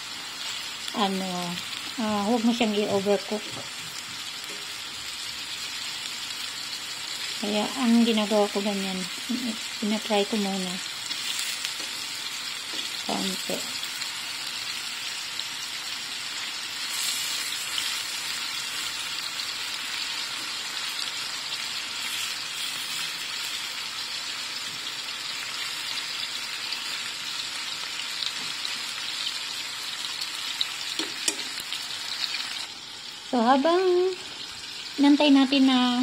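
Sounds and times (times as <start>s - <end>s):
chicken sizzling in frying pan: 0.0s - 36.0s.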